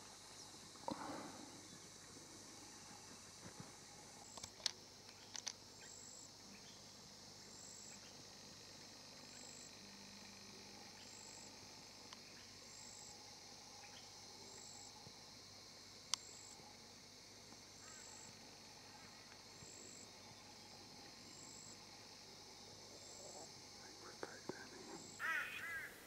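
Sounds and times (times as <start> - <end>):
high insect chirp: 0.0 - 26.0
insect chorus hissing: 0.0 - 26.0.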